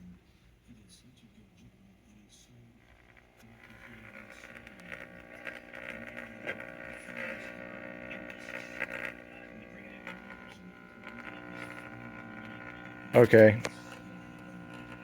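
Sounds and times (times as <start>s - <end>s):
radio crackles and static: 0.0s - 15.0s
radio speaker hum: 0.0s - 15.0s.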